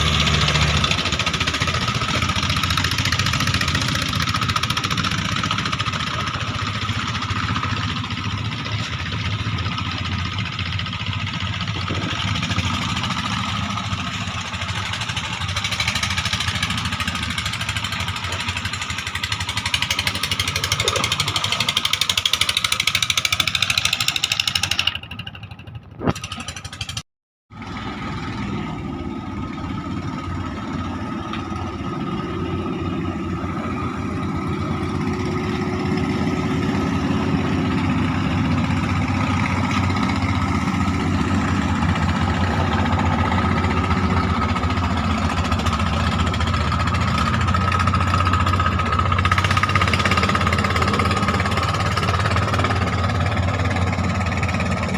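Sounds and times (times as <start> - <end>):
boat engine running: 0.0 - 54.9.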